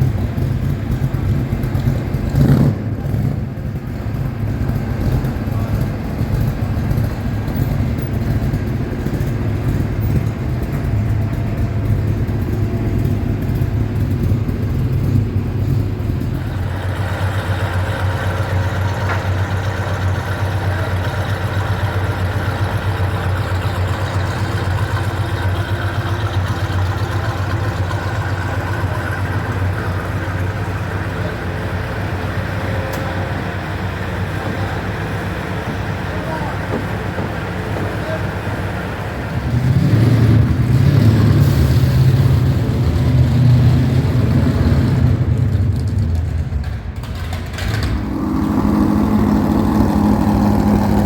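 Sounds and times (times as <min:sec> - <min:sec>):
vehicle engine idling: 0:00.0 - 0:51.0.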